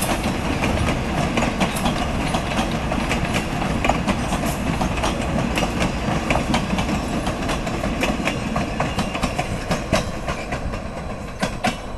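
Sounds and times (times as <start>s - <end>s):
train wheels rumbling on rails: 0.0s - 11.9s
wheels clacking on track: 0.0s - 11.9s.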